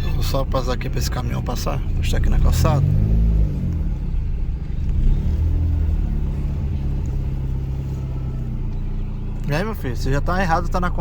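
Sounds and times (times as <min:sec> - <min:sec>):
car engine at low speed: 0:00.0 - 0:11.0.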